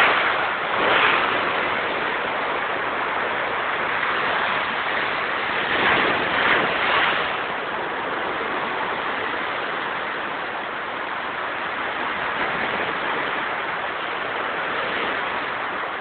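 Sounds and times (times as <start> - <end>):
rough sea surf: 0.0 - 16.0
wind: 0.0 - 16.0.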